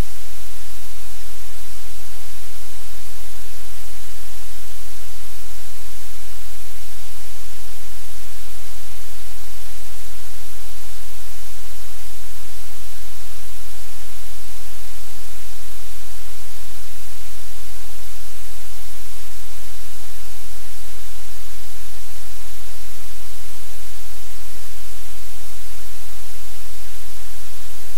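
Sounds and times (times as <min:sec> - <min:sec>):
low electrical hum: 0:00.0 - 0:27.9
static hiss: 0:00.0 - 0:27.9.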